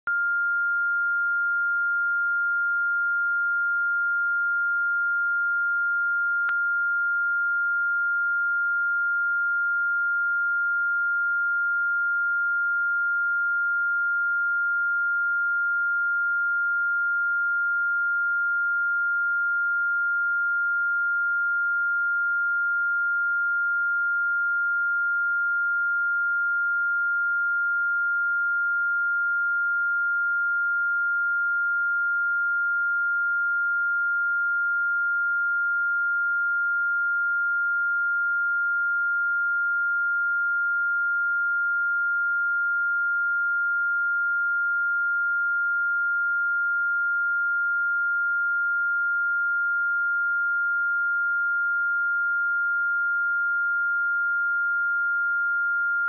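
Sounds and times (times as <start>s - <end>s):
sine-wave test tone: 0.0s - 56.0s.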